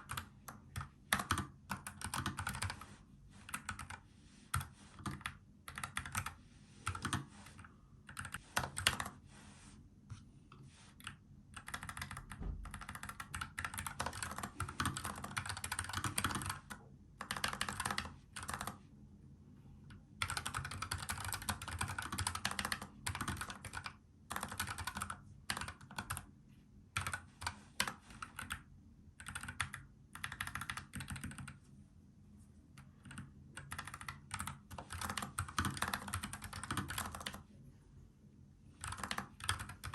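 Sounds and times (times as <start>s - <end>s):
typing on mechanical keyboard: 0.0s - 2.8s, 3.5s - 9.2s, 11.0s - 18.8s, 20.2s - 26.3s, 27.0s - 31.6s, 32.8s - 37.4s, 38.8s - 39.9s.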